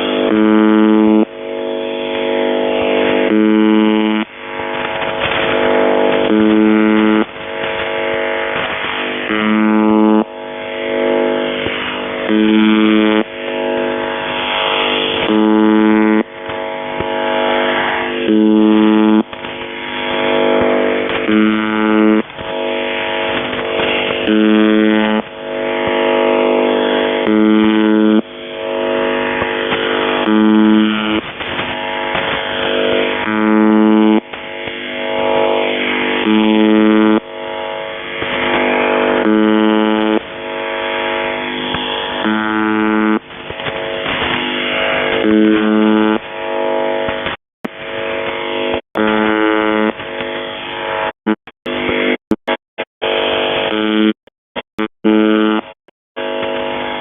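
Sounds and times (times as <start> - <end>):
harsh buzzing tone: 0.0 - 57.0
radio static and interference: 0.0 - 57.0.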